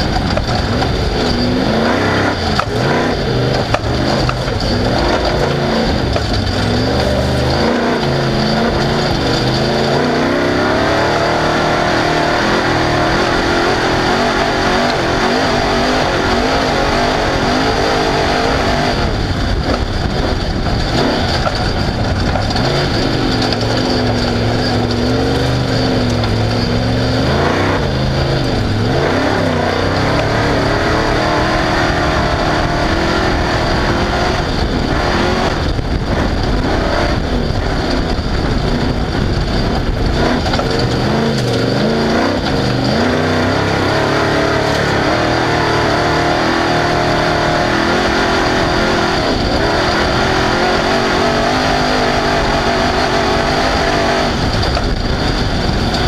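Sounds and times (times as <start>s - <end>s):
race vehicle engine revving: 0.0s - 56.0s
terrain and wind noise: 0.0s - 56.0s.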